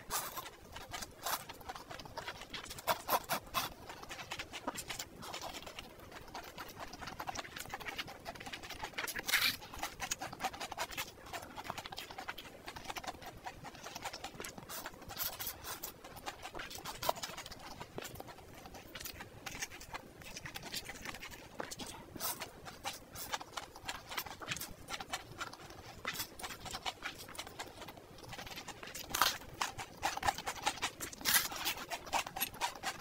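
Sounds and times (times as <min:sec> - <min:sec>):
chewing and slurping noodles: 0:00.0 - 0:33.0.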